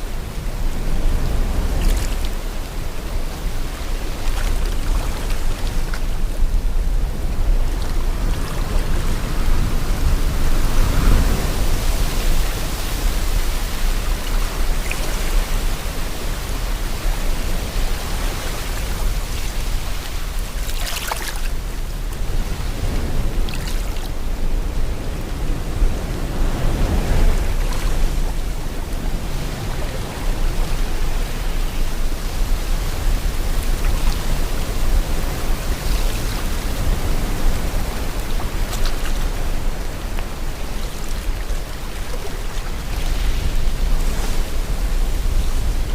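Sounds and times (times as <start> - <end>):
wind: 0.0 - 45.9.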